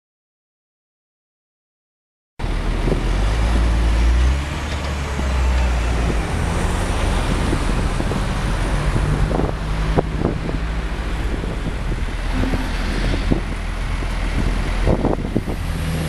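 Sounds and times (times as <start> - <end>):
wheel loader diesel engine: 2.4 - 16.0.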